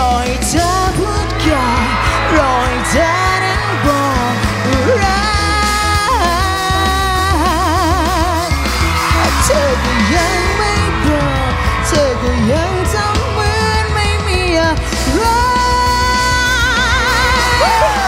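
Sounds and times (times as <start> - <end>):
backing band with bass beat: 0.0 - 18.0
person singing pop song: 0.0 - 18.0.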